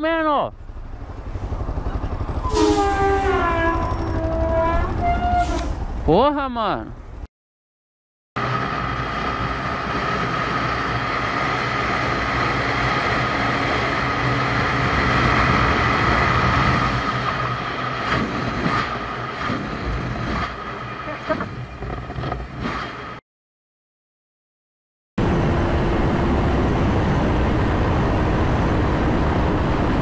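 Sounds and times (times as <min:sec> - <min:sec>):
vehicle engine and road noise: 0:00.0 - 0:07.3, 0:08.4 - 0:23.2, 0:25.2 - 0:30.0.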